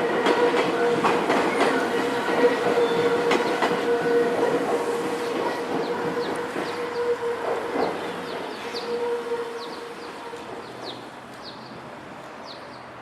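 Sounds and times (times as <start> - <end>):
train rumble and hum: 0.0 - 12.4.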